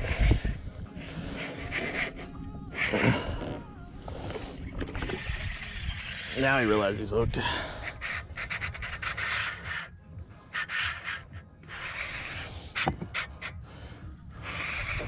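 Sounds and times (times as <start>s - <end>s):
heavy rhythmic breathing: 0.0s - 15.0s.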